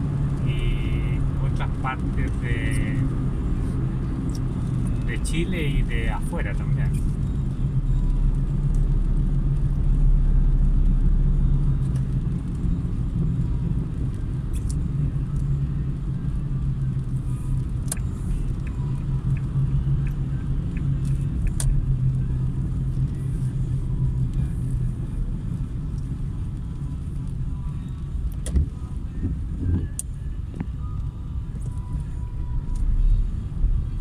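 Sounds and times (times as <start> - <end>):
car engine and tyre noise: 0.0 - 34.0.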